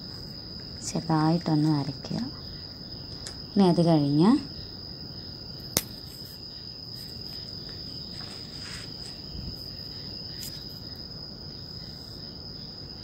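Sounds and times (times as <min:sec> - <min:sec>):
faint low background noise: 0:00.0 - 0:13.0.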